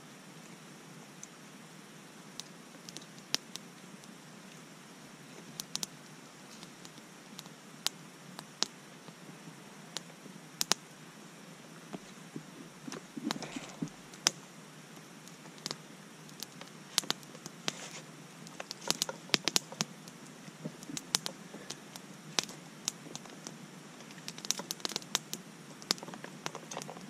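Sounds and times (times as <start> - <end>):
campfire crackling and popping: 2.2 - 27.0.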